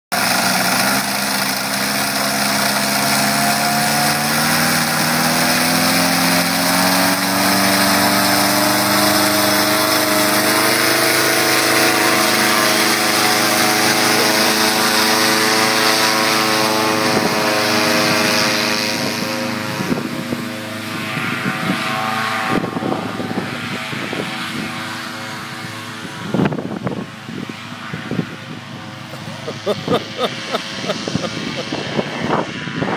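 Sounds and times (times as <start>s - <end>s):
paramotor engine at high power: 0.0s - 32.9s.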